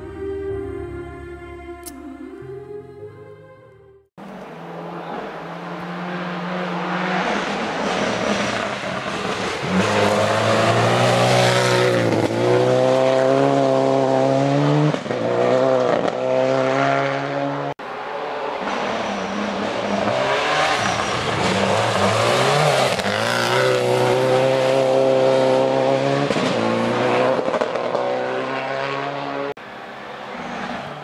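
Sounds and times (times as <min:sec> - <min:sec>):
rally car engine passing: 0:04.2 - 0:31.0.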